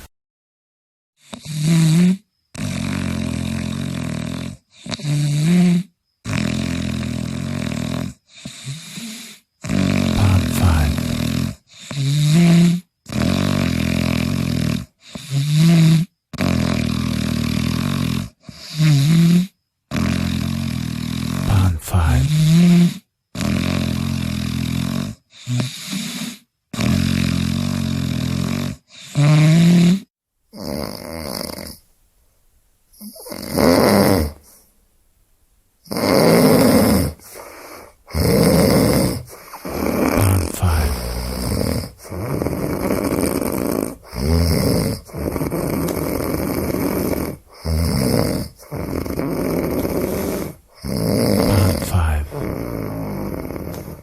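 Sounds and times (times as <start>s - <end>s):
person snoring: 1.2s - 31.8s, 33.0s - 34.7s, 35.9s - 54.0s.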